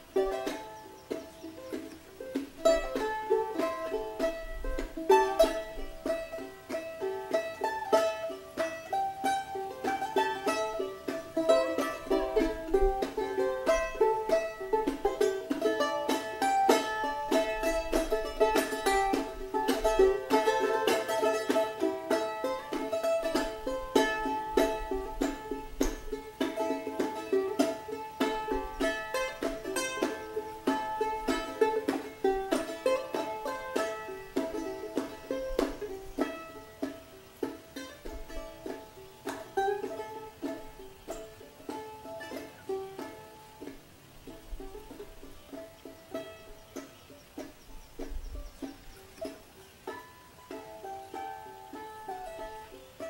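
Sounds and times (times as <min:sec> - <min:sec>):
charango plucked notes: 0:00.0 - 0:53.0.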